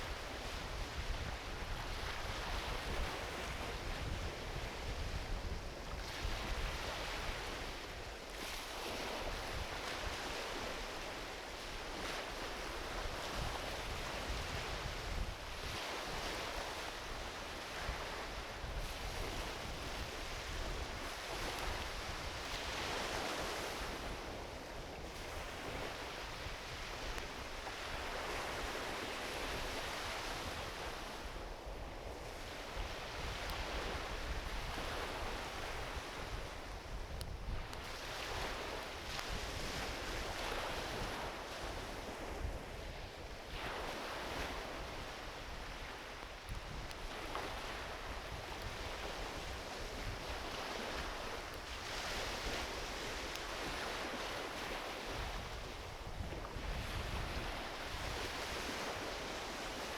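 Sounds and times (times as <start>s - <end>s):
ocean waves washing onto beach: 0.0s - 59.9s
wind rumbling on microphone: 0.0s - 59.9s.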